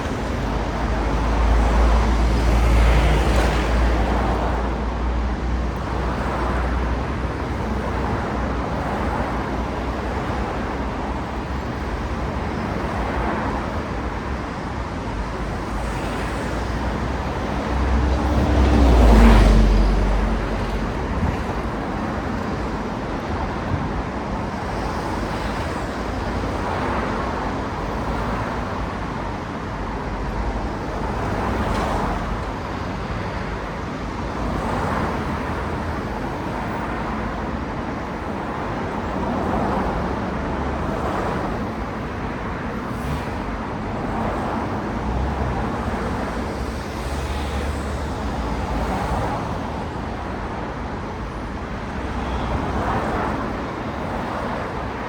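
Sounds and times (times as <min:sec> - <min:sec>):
city road traffic: 0:00.0 - 0:55.0.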